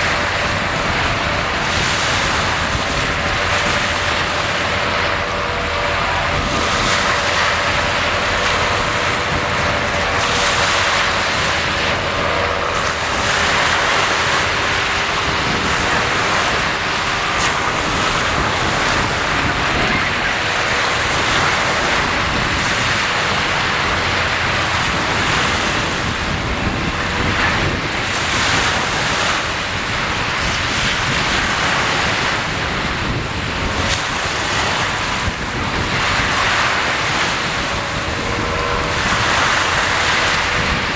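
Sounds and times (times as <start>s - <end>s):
sea waves washing: 0.0s - 40.9s
wind buffeting microphone: 0.0s - 40.9s.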